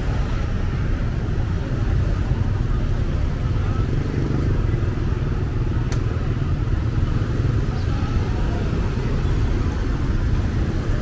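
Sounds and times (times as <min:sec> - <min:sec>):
motorbike engines rumbling: 0:00.0 - 0:11.0
road traffic: 0:00.0 - 0:11.0.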